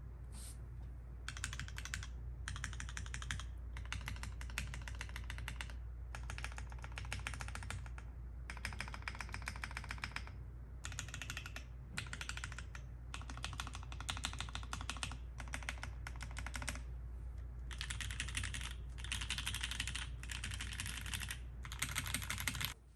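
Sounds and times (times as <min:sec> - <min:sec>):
mechanical keyboard typing: 0:01.3 - 0:16.8, 0:17.7 - 0:22.8.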